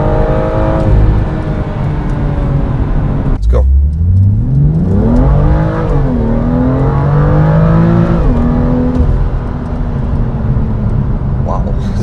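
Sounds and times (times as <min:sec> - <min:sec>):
car engine accelerating with upshifts: 0:00.0 - 0:12.0.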